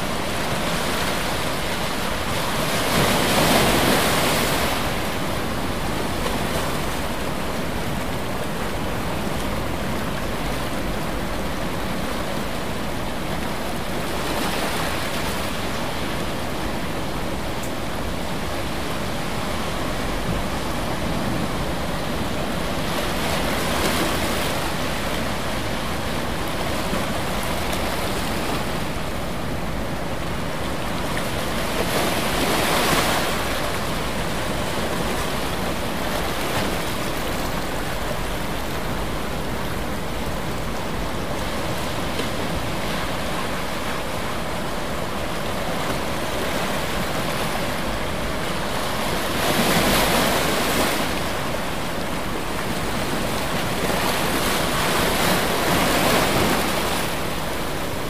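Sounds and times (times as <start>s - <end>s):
rushing water or wind: 0.0s - 58.0s.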